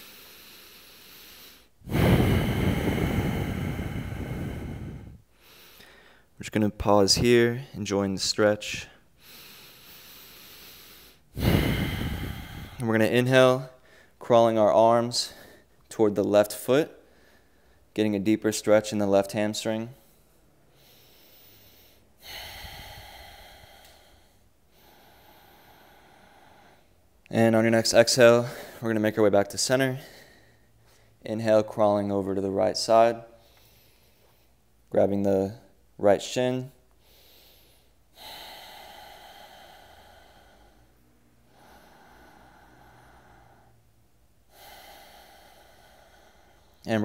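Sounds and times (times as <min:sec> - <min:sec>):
man breathing: 0:00.0 - 0:07.8, 0:08.4 - 0:16.0, 0:16.9 - 0:17.9, 0:18.9 - 0:47.0.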